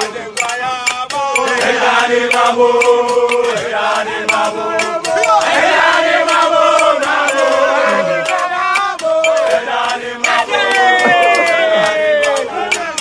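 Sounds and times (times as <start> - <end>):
sharp clicks: 0.0 - 13.0
soldiers chanting and singing: 0.0 - 13.0.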